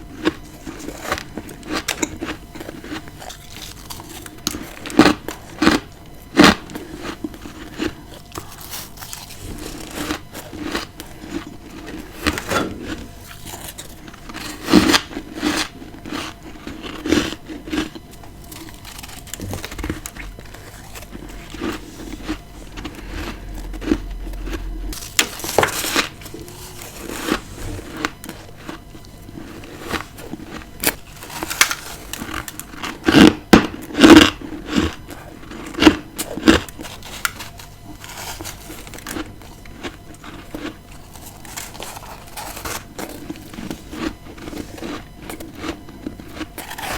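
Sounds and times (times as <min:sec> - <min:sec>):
chewing crunchy frost: 0:00.0 - 0:46.9.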